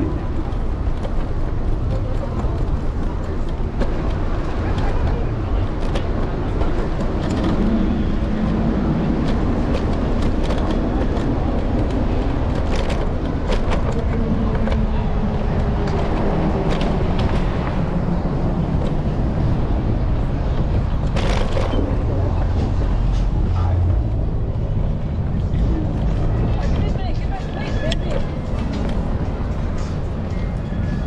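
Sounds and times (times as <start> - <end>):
scooter wheels and wind rumble: 0.0 - 31.0.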